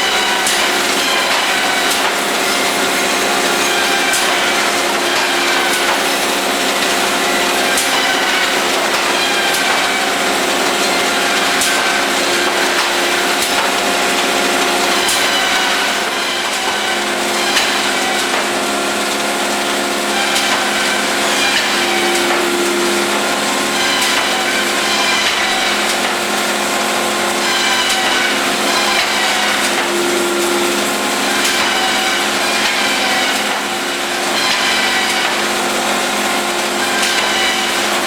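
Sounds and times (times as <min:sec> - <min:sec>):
bandsaw cutting wood: 0:00.0 - 0:38.0.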